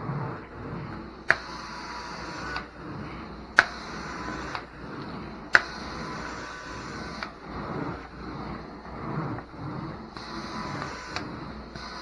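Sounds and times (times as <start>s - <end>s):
extractor suction running: 0.0s - 12.0s.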